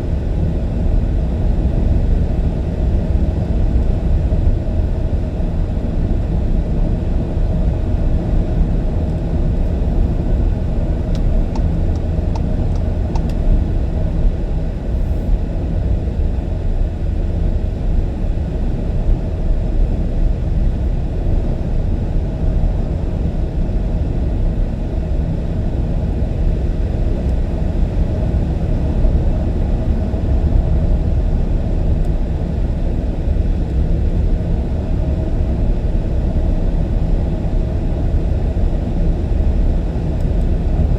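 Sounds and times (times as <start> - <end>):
car road and tyre noise: 0.0 - 40.9.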